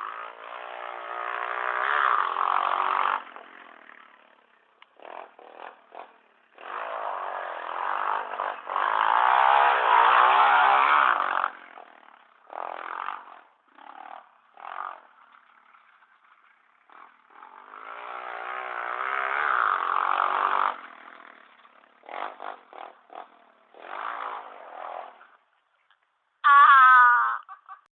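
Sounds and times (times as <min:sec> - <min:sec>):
pit bike engine revving: 0:00.0 - 0:25.5.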